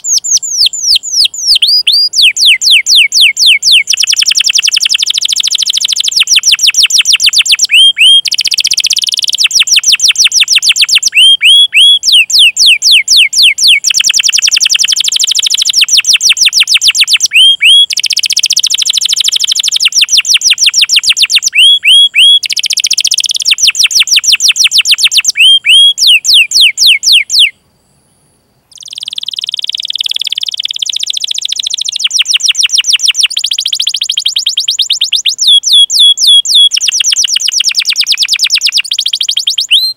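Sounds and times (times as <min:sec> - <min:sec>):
canary singing: 0:00.0 - 0:27.6, 0:28.7 - 0:39.9.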